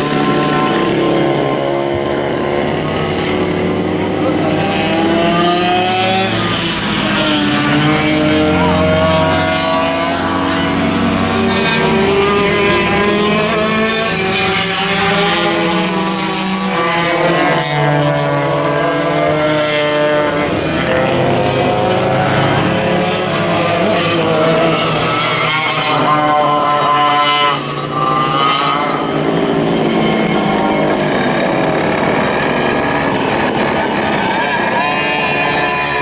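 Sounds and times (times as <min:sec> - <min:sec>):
kart engines revving: 0:00.0 - 0:36.0.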